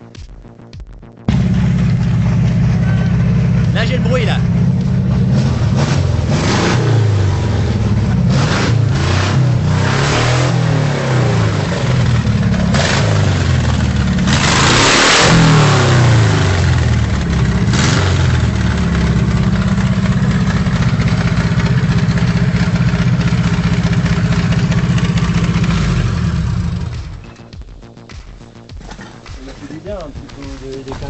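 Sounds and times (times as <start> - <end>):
unmuffled engine revving and idling: 1.1 - 29.3.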